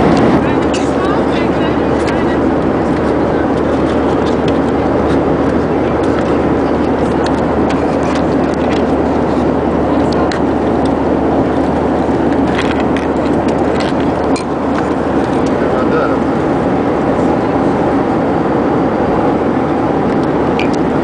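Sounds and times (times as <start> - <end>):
airliner cabin noise: 0.0 - 21.0.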